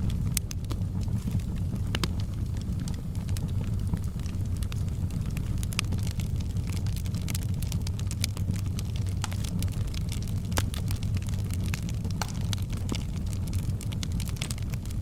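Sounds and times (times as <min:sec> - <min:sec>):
firewood burning with crackles: 0:00.0 - 0:15.0.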